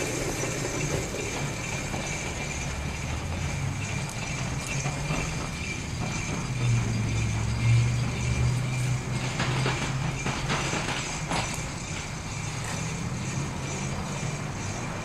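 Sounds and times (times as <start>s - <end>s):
model streetcar humming: 0.0s - 15.0s.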